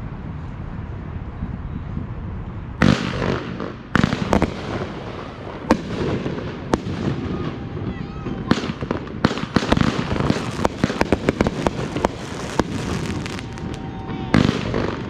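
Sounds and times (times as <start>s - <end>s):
steady low rumble: 0.0s - 15.0s
fireworks bangs: 2.8s - 15.0s
fireworks crackling: 2.8s - 15.0s.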